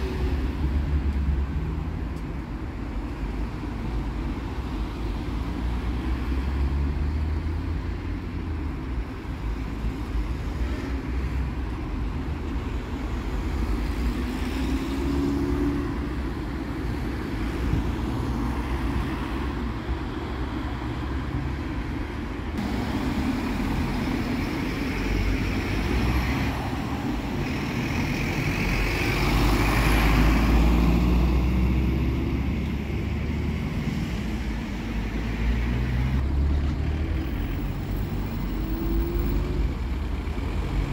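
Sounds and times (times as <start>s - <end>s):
road traffic driving past: 0.0s - 40.9s.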